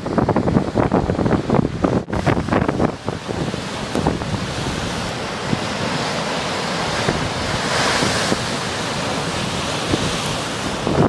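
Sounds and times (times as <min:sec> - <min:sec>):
wind buffeting microphone: 0:00.0 - 0:11.0
surf breaking on rocks: 0:00.1 - 0:11.0.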